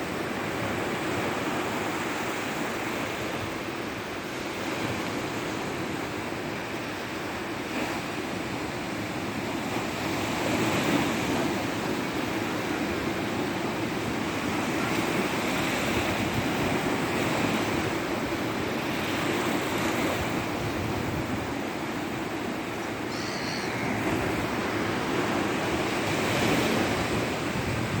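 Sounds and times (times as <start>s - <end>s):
waves washing onto shore: 0.0s - 28.0s.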